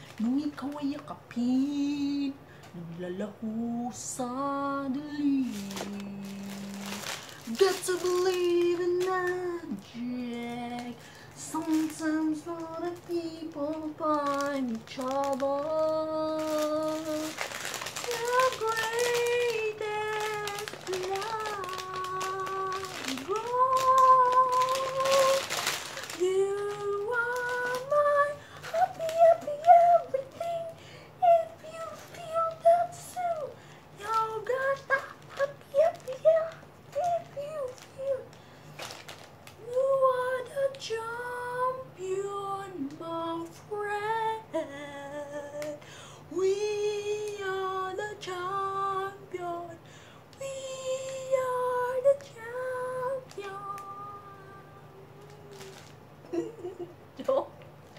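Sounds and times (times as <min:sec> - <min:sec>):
woman singing: 0:00.0 - 0:38.4, 0:39.5 - 0:56.9.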